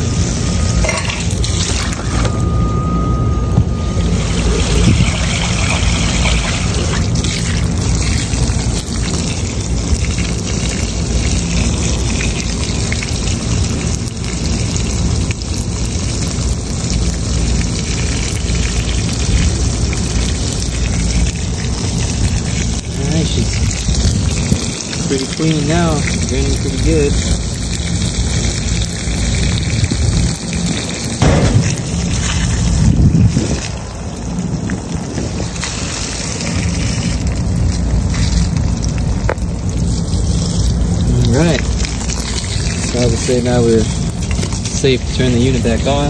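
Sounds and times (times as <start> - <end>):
low machinery hum: 0.0 - 46.0
water pouring and trickling: 0.0 - 46.0.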